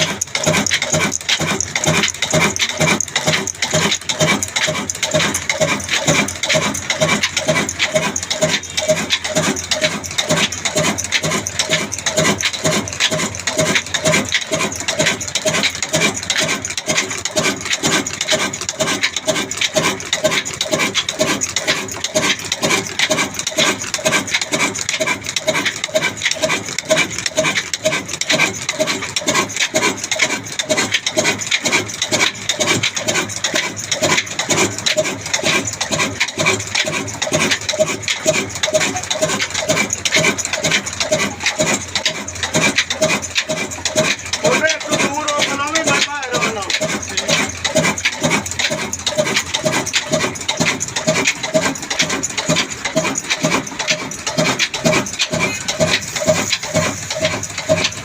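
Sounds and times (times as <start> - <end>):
diesel engine running: 0.0 - 58.0
mill grinding and rubbing: 0.0 - 58.0.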